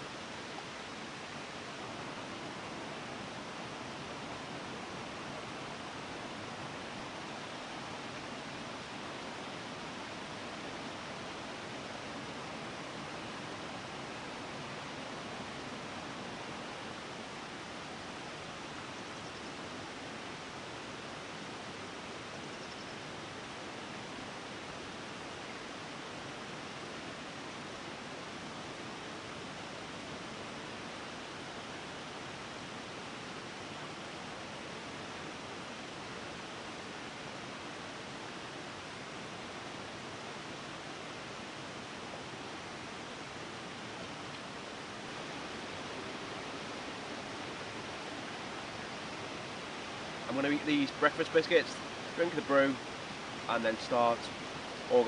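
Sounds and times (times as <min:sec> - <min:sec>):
waterfalls rushing: 0:00.0 - 0:55.0.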